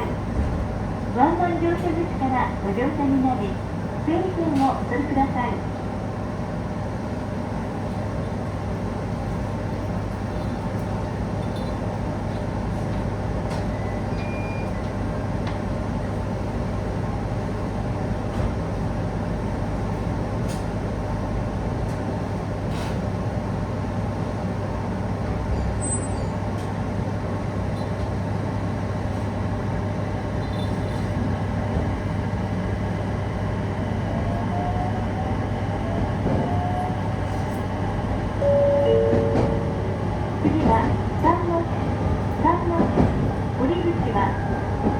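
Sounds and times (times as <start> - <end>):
electric train running hum: 0.0 - 44.9.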